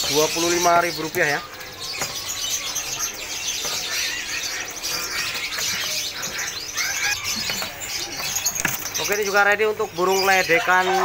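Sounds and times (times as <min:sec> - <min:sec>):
songbirds chirping and twittering: 0:00.0 - 0:11.0.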